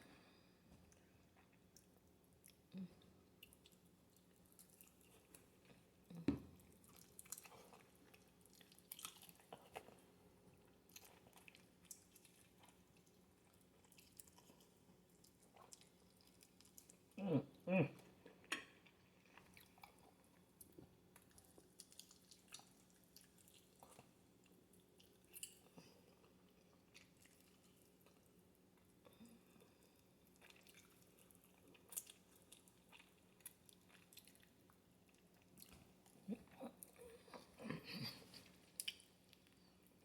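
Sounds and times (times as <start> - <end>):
chewing and crunching food: 0.2 - 40.0.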